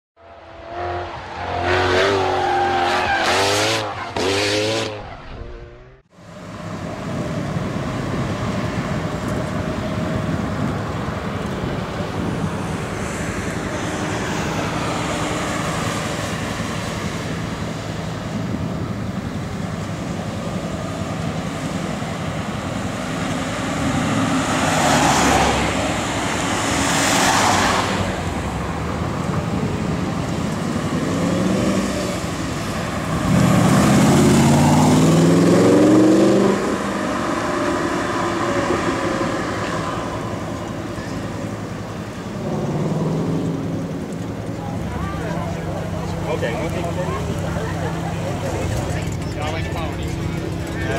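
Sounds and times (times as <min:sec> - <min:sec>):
road traffic noise: 0:00.2 - 0:50.9
vehicles swishing past: 0:00.2 - 0:50.9
car engine accelerating hard: 0:07.0 - 0:50.9.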